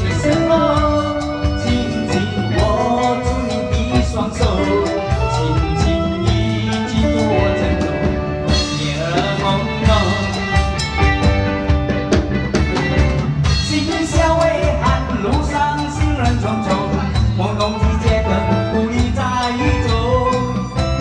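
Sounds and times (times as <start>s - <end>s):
person singing pop song: 0.0s - 11.4s, 13.4s - 21.0s
steady drum beat: 0.0s - 21.0s.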